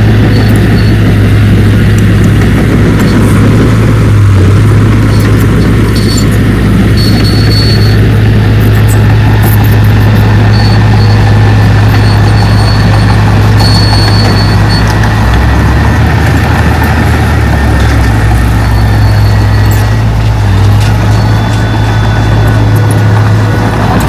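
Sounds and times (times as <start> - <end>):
deeper engine note: 0.0 - 24.0
heavy diesel engine droning: 0.0 - 24.0.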